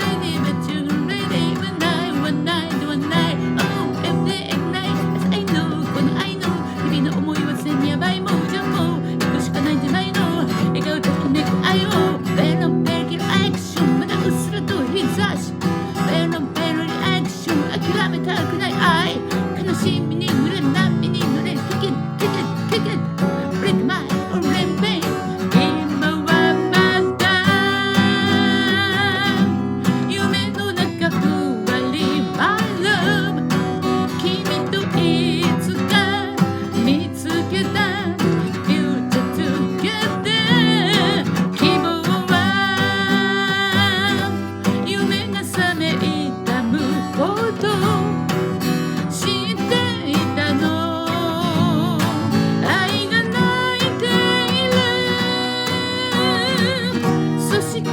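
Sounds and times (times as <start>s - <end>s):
acoustic guitar playing: 0.0s - 57.9s
person singing with vibrato: 0.0s - 57.9s.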